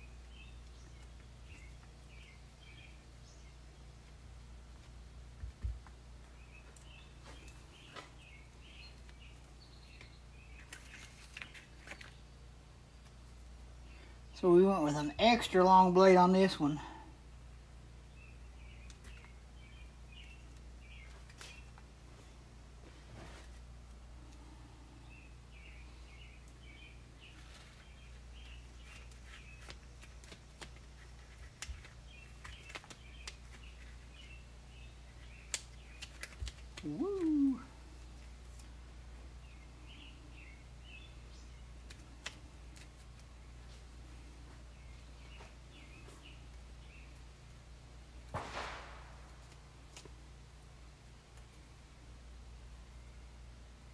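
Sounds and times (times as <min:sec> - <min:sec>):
small birds chirping: 0:00.0 - 0:53.9
steady low hum: 0:00.0 - 0:53.9.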